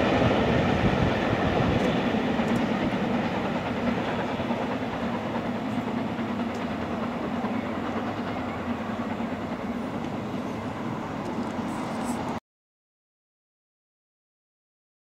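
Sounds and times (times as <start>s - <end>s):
train coaches rumbling on rails: 0.0s - 12.4s.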